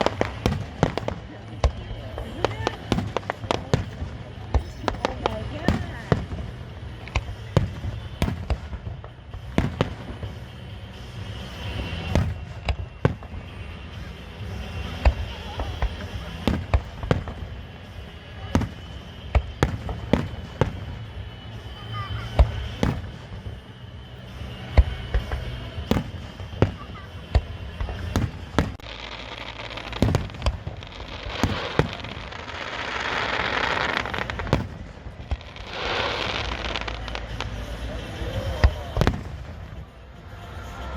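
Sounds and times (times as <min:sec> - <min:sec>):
fireworks bangs: 0:00.0 - 0:40.9
fireworks crackle and hiss: 0:00.0 - 0:40.9
low rumble of echoing reports: 0:00.0 - 0:40.9.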